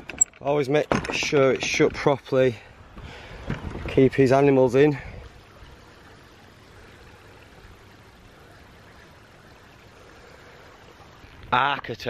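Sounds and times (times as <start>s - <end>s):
water rushing softly: 0.7s - 12.0s.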